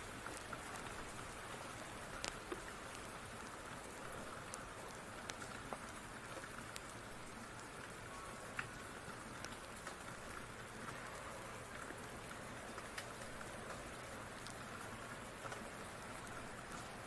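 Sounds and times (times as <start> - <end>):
steady rain hiss: 0.0 - 17.0
wood fire crackling and popping: 0.2 - 7.9, 8.5 - 17.0.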